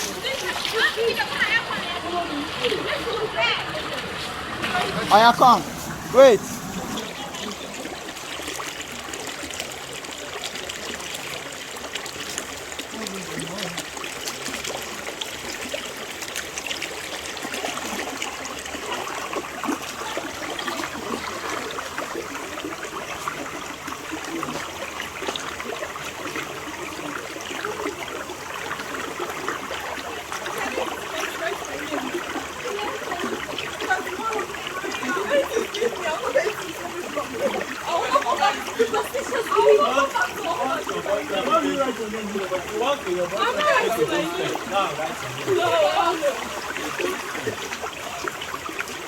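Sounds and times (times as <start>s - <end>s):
waterfall rushing and splashing: 0.0s - 49.0s.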